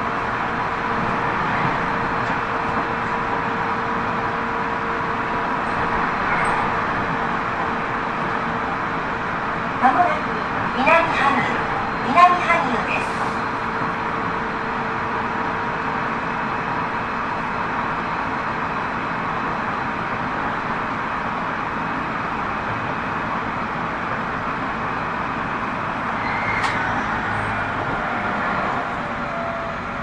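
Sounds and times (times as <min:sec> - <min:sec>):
wheels rumbling on rail: 0:00.0 - 0:30.0.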